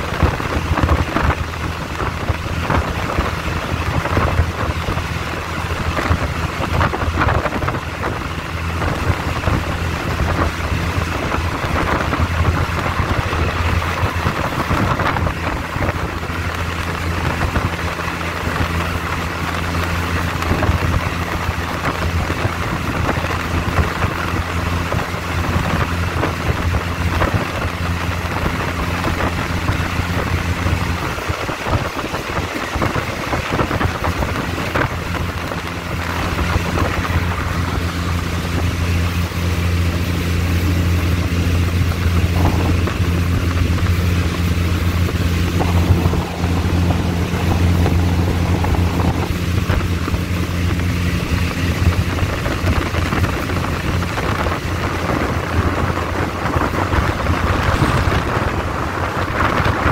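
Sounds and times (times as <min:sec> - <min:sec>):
train engine drone: 0:00.0 - 0:59.9
wind: 0:00.0 - 0:59.9.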